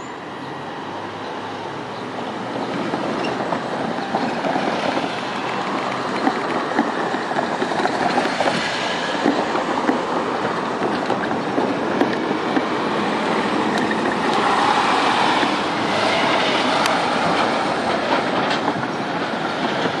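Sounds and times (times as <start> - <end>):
train wheels rumbling on rails: 0.4 - 20.0.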